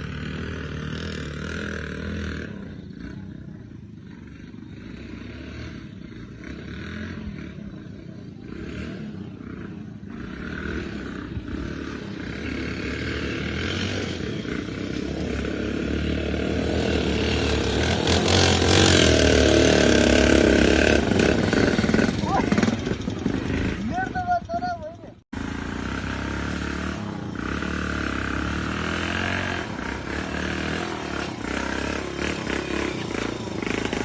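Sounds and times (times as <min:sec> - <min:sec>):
motorcycle engine under load: 0:00.0 - 0:34.0.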